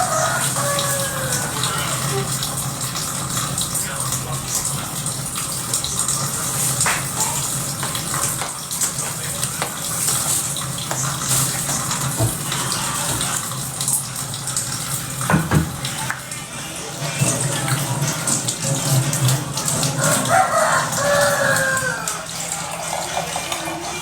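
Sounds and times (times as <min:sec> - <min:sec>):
water running from a tap: 0:00.0 - 0:24.0.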